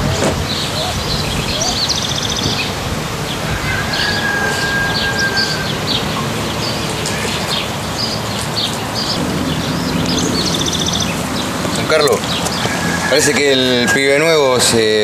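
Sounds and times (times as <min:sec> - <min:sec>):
birds chirping: 0:00.0 - 0:15.0
outdoor background rumble: 0:00.0 - 0:15.0.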